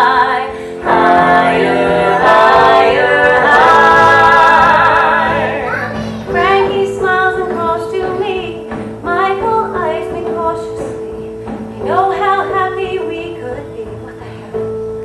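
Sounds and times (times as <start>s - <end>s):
held accompaniment notes: 0.0s - 15.0s.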